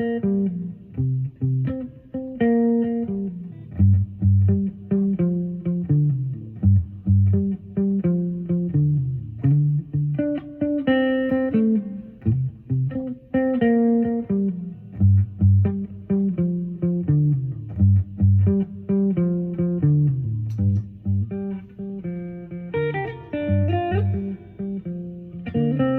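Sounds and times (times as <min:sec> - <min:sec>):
electric guitar playing slow blues: 0:00.0 - 0:25.9.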